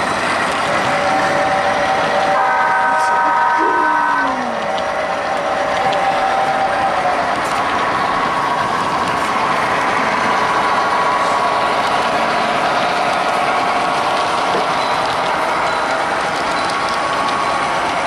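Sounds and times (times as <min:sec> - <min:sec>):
model train wheels on rails: 0:00.0 - 0:18.0.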